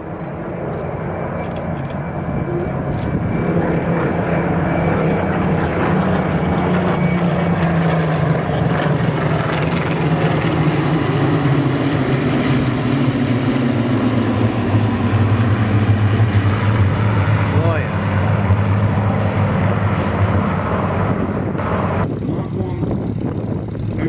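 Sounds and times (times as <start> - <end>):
aircraft piston engines droning: 0.0 - 24.0.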